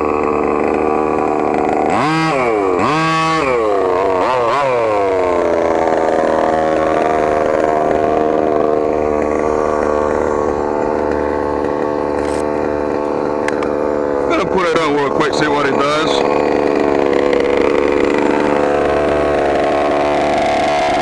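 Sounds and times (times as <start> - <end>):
small two-stroke engine revving: 0.0 - 21.0.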